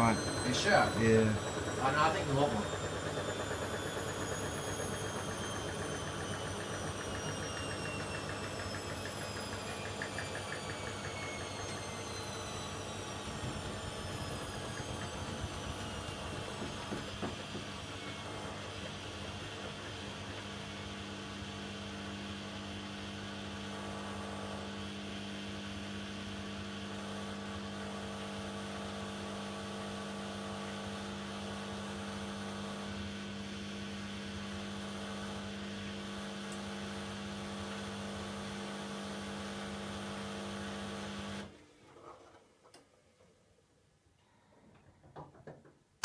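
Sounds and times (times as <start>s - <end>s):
washing machine humming: 0.0s - 42.4s.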